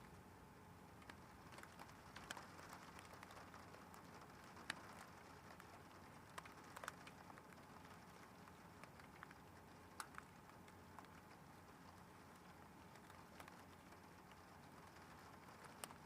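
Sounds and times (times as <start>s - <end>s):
faint rain pattering: 0.0s - 16.0s.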